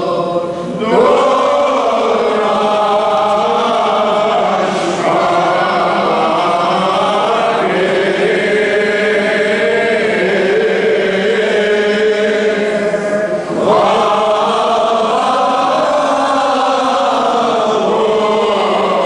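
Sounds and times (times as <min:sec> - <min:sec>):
voices chanting sustained notes: 0:00.0 - 0:19.0.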